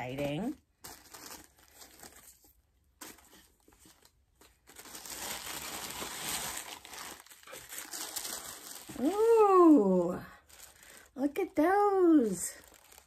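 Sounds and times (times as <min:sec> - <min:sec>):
soft paper rustles: 0:00.0 - 0:13.0
wrapping paper crinkling and tearing: 0:00.0 - 0:13.0.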